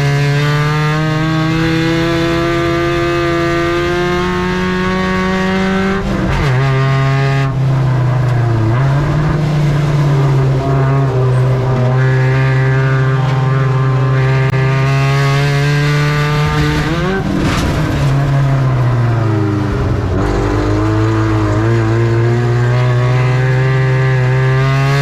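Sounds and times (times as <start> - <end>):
race truck engine revving: 0.0 - 25.0.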